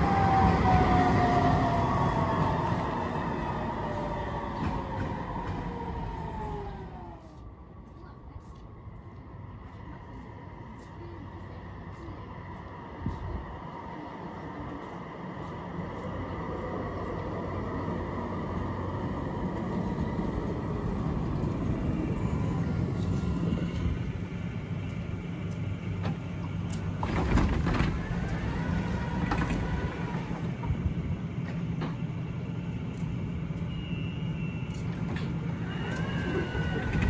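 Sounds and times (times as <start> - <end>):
tram doors closing: 0.0 - 37.0
tram equipment humming: 0.0 - 37.0.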